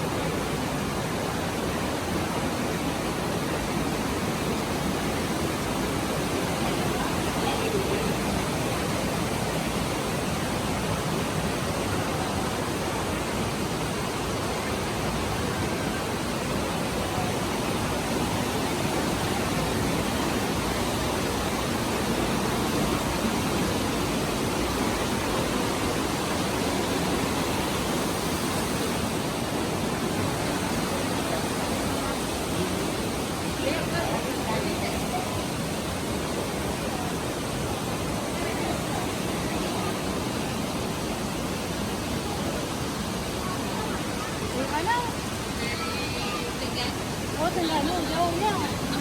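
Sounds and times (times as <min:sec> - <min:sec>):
stream rushing through cave: 0:00.0 - 0:49.0.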